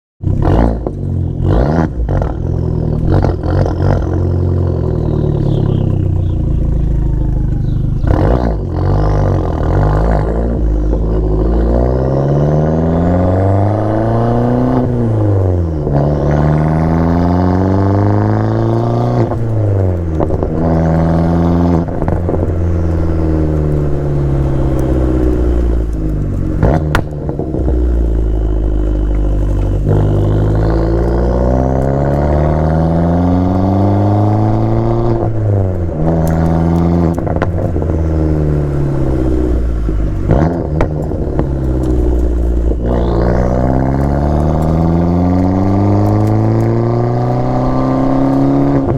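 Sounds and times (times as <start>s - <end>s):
car engine accelerating hard: 0.2s - 48.9s
exhaust cracks: 0.2s - 48.9s.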